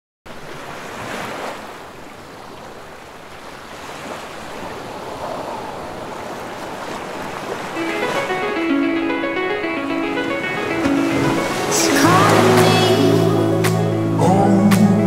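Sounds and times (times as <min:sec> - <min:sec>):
lake waves washing onto pebbles: 0:00.3 - 0:08.8, 0:09.4 - 0:13.8.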